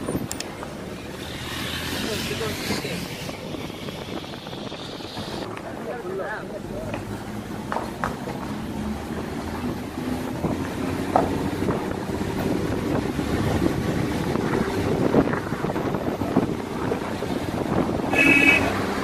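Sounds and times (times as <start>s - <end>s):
wind noise on microphone: 0.0s - 5.6s, 9.2s - 19.0s.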